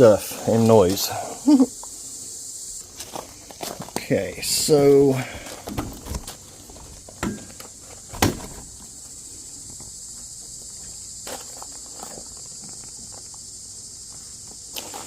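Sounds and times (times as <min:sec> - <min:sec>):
high insect chirring: 0:00.0 - 0:15.0.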